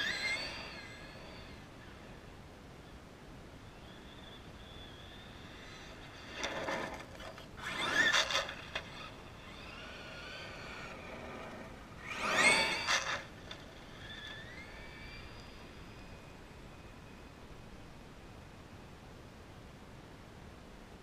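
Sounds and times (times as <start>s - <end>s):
rc truck motor whining: 0.0s - 3.0s, 3.6s - 17.6s.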